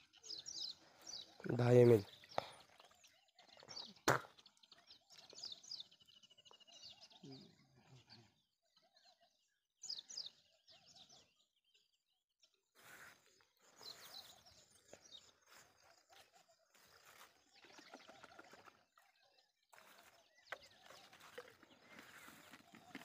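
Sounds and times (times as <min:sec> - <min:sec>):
faint birdsong: 0:00.0 - 0:23.0.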